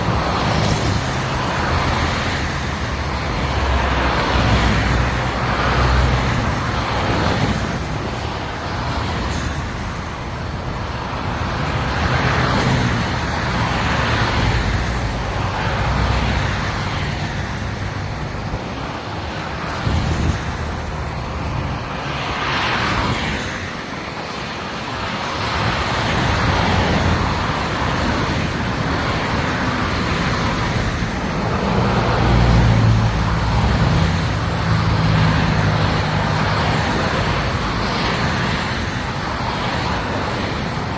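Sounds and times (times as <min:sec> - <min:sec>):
road and engine noise: 0:00.0 - 0:40.9
vehicles swishing past: 0:00.0 - 0:40.9.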